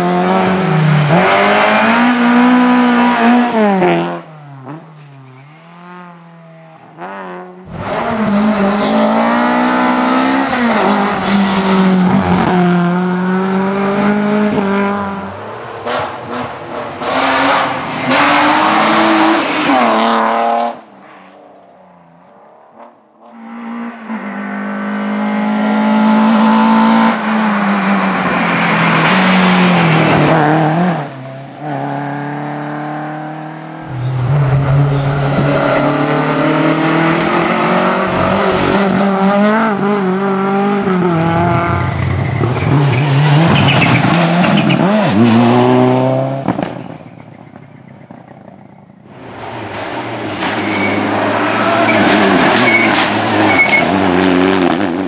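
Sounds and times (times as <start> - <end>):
rally cars passing at high revs: 0.0 - 55.0.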